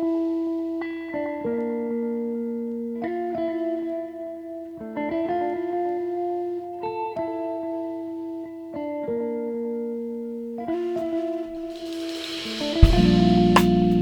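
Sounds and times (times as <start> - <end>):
guitar strumming slow chords: 0.0 - 14.0.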